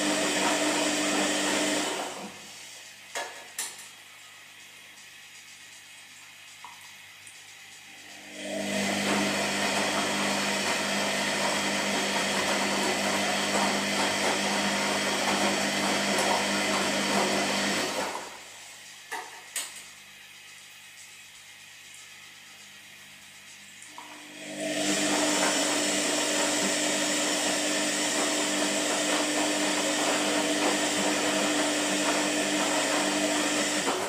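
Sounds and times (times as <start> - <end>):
washing machine motor whirring: 0.0 - 34.0.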